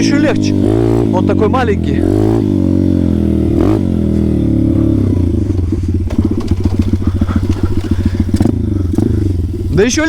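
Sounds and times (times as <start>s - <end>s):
small engine chugging: 0.0s - 10.0s.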